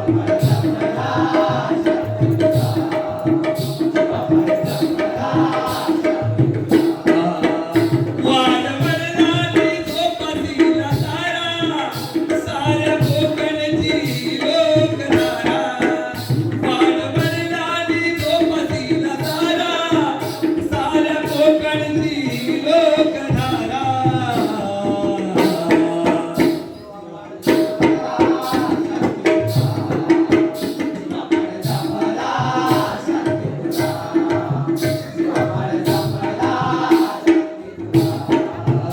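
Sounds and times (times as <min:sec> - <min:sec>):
hand drum rhythm: 0:00.0 - 0:38.9
person singing folk verses: 0:00.0 - 0:38.9.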